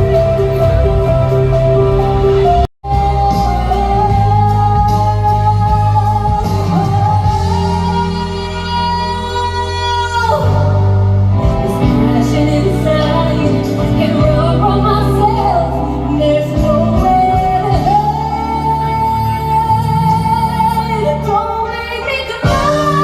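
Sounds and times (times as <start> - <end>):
deep bass line: 0.0 - 21.5
person singing: 2.3 - 23.0.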